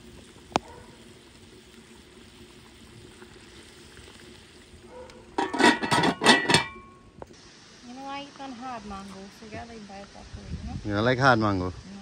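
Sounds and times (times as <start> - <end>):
water boiling in a pot: 0.0 - 12.0.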